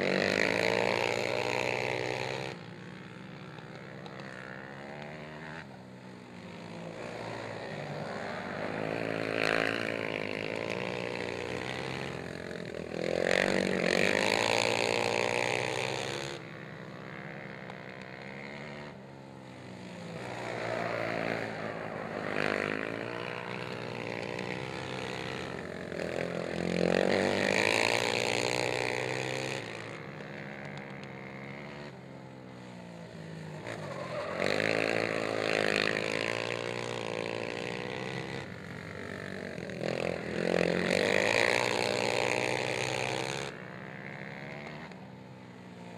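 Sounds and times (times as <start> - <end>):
quad engines revving: 0.0 - 45.9.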